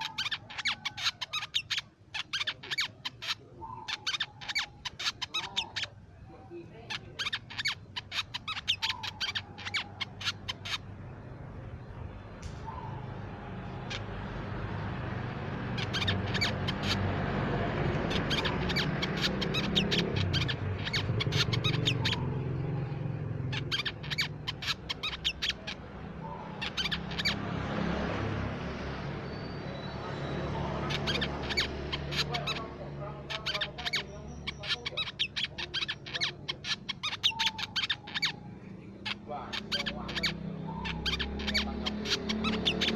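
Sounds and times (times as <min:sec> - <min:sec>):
bird chipping calls: 0:00.0 - 0:06.2, 0:06.8 - 0:11.0, 0:12.3 - 0:42.9
sunbird chirping: 0:00.0 - 0:11.9, 0:18.1 - 0:27.4, 0:28.7 - 0:42.9.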